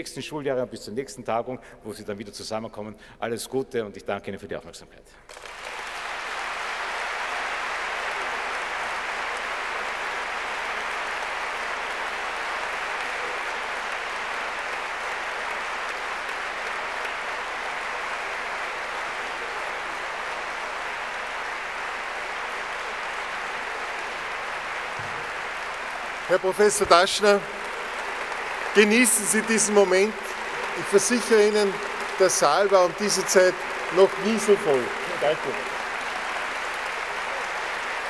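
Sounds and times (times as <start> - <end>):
audience applauding: 5.3 - 38.0.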